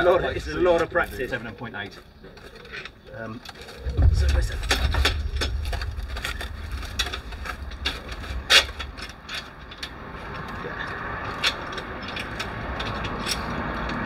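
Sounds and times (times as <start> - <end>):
metallic clicks and knocks: 2.4 - 14.0.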